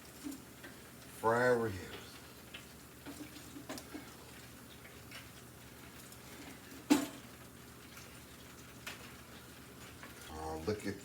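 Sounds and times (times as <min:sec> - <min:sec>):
hot oil crackling in fryer: 0:00.0 - 0:11.0.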